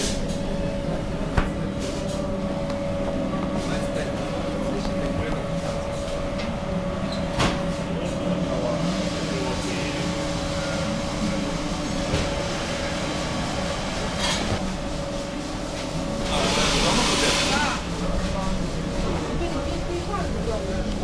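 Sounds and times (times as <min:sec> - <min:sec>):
drum coffee roaster humming: 0:00.0 - 0:21.0.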